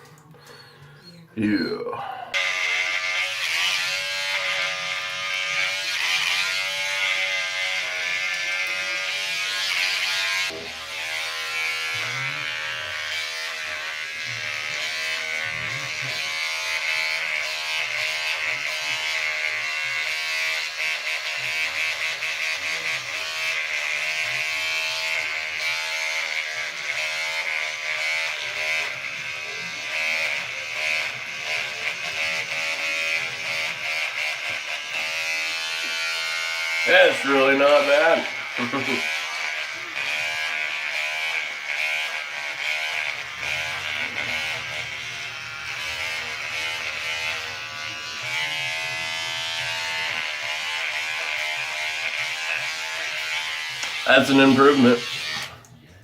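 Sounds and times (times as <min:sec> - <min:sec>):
electric shaver buzzing: 0:02.3 - 0:56.0.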